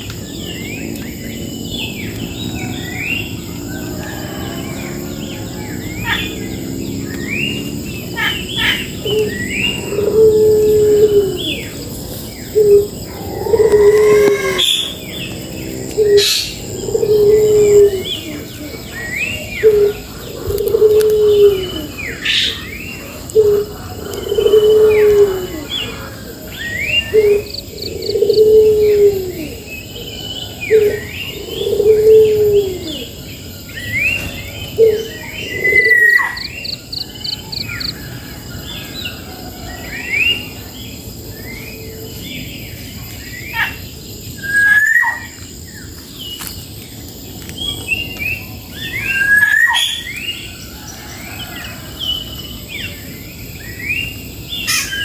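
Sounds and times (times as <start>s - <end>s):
low cooing calls: 0.0s - 46.5s
birds chirping and trilling: 0.0s - 55.0s.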